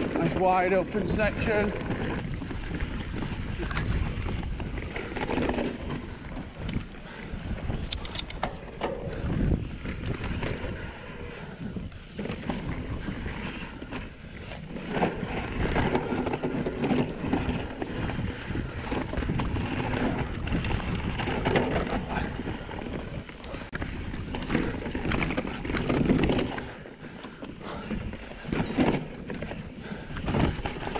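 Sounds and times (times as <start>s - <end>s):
bike rattling and knocking: 0.0s - 30.9s
tyres on loose dirt: 0.0s - 30.9s
wind buffeting microphone: 0.0s - 30.9s.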